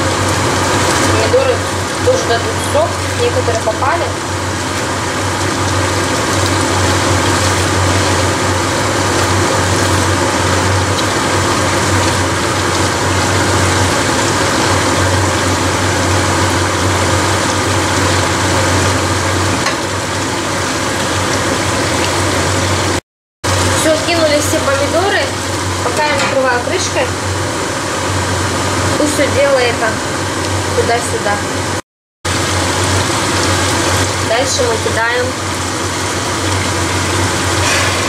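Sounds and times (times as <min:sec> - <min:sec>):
food sizzling in a frying pan: 0:00.0 - 0:31.2, 0:32.3 - 0:38.0.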